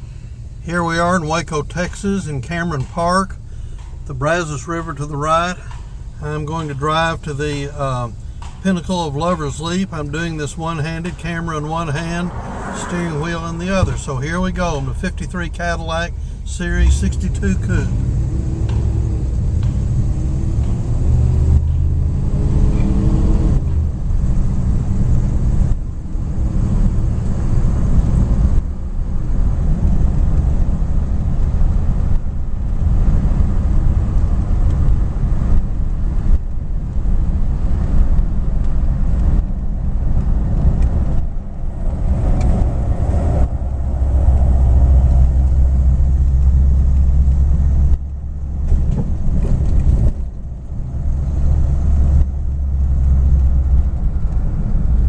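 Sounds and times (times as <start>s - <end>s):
car engine while driving: 0.0s - 55.0s
road noise inside car: 0.0s - 55.0s.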